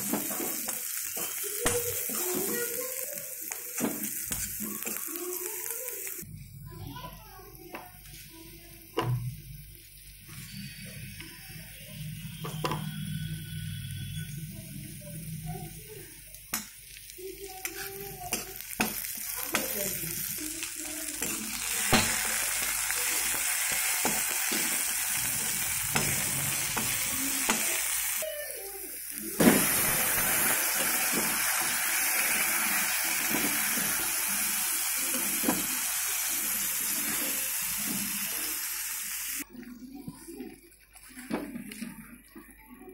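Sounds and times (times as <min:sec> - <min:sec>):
onions sizzling in oil: 0:00.0 - 0:06.3, 0:08.0 - 0:39.4.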